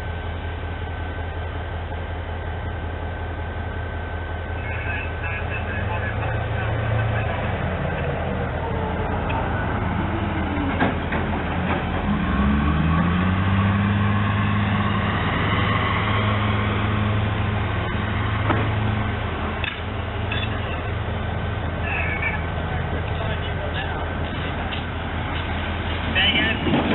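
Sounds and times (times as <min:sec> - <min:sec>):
locomotive diesel engine: 0:00.0 - 0:26.9.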